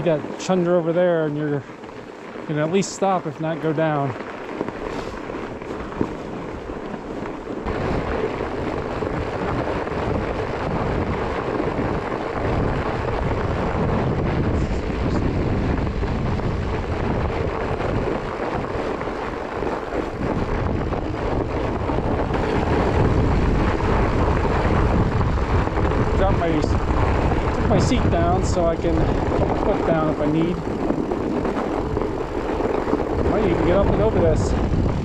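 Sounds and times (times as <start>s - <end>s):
fat tyres rolling on snow: 0.0s - 35.0s
wind buffeting microphone: 0.0s - 35.0s.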